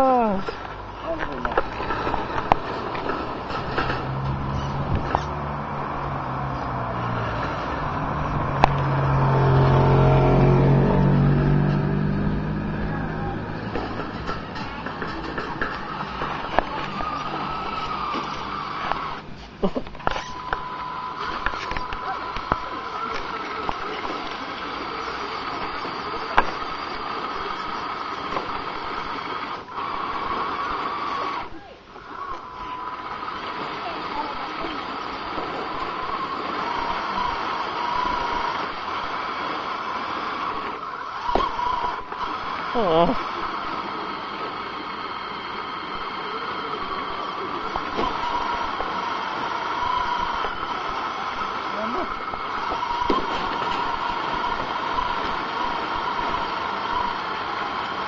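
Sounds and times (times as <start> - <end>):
engine-like drone: 0.0 - 58.0
toy truck motor whining: 0.0 - 58.0.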